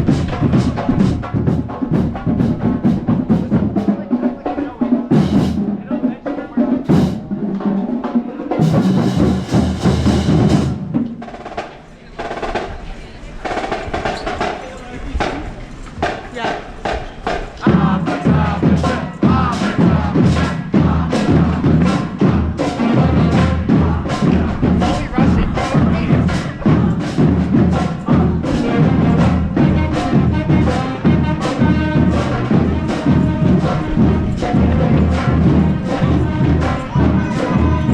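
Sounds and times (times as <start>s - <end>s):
brass low notes: 0.0s - 11.4s, 17.6s - 37.9s
marching drumline playing: 0.0s - 37.9s.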